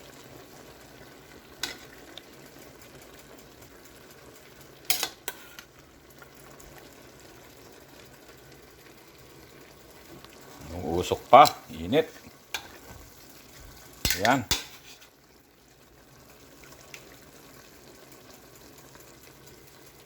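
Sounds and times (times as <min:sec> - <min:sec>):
faint pan sizzle: 0:00.0 - 0:20.0.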